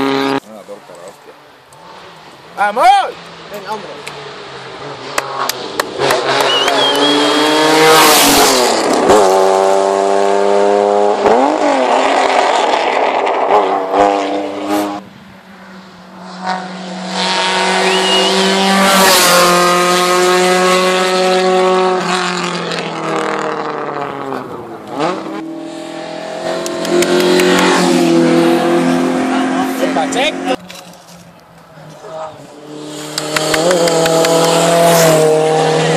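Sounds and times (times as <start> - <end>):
race car engines revving: 0.0 - 35.9.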